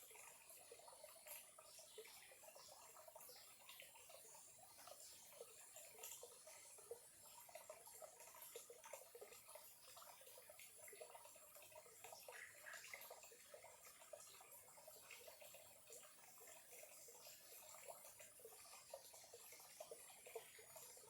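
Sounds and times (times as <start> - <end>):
stream trickling: 0.0 - 21.0
water plinks and gurgles: 0.0 - 21.0.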